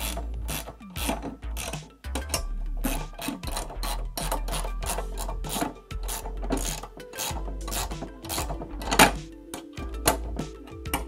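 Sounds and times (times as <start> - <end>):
wrench rasping on bolts: 0.0 - 9.2
background music: 0.0 - 11.0.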